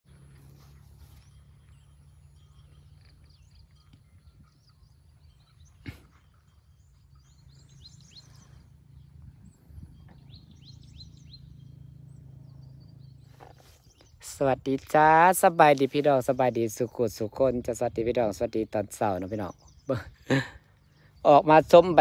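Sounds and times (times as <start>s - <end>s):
birds chirping: 0.1s - 22.0s
low steady rumble: 0.1s - 22.0s.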